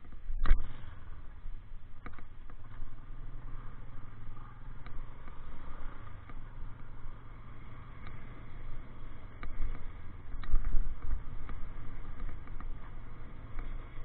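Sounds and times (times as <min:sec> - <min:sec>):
motorcycle engine humming: 0:00.0 - 0:14.0.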